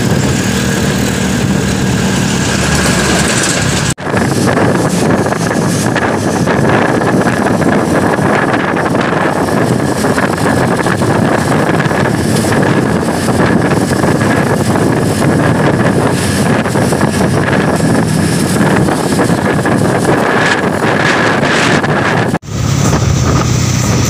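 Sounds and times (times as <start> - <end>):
engine and road noise: 0.0 - 24.0
wind rushing over microphone: 0.0 - 24.0.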